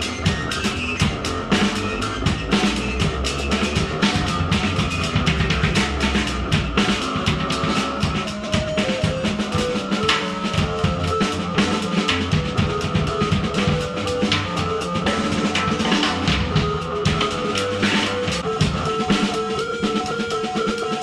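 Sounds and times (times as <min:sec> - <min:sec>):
fast dense drumming: 0:00.0 - 0:21.0
held electronic keyboard tones: 0:00.0 - 0:21.0.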